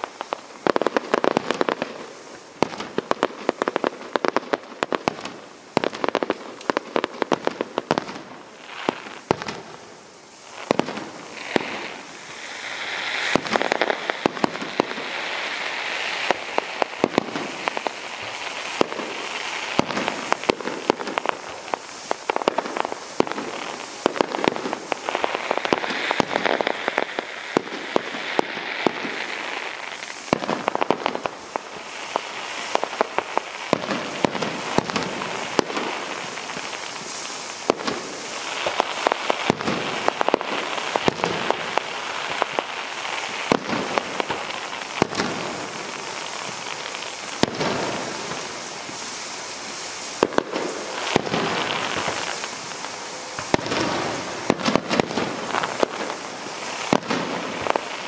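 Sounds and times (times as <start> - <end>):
fireworks popping and banging: 0.0 - 9.8, 10.4 - 58.0
fireworks crackling hiss: 0.0 - 58.0.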